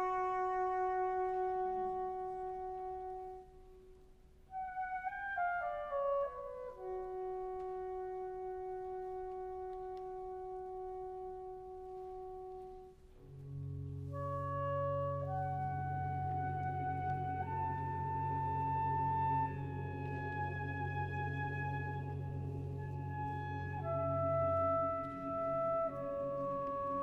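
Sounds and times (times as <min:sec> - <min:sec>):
soprano saxophone: 0:00.0 - 0:03.9, 0:04.5 - 0:27.0.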